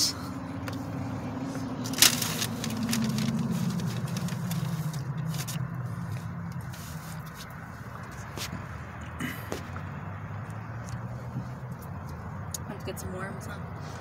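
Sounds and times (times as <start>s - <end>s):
car passing by: 0.0s - 11.8s.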